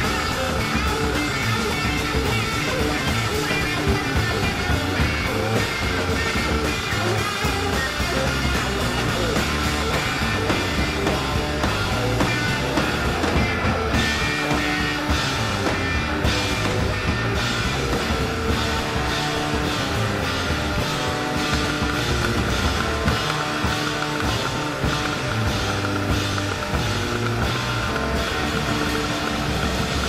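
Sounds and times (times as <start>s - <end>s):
instrumental rock music: 0.0s - 30.0s.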